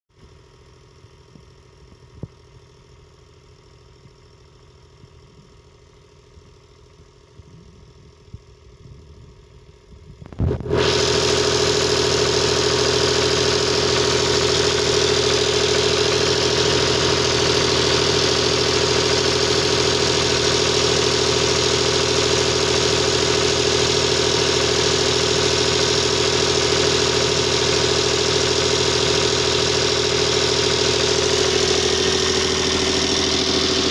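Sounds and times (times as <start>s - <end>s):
diesel generator running: 0.1s - 33.9s.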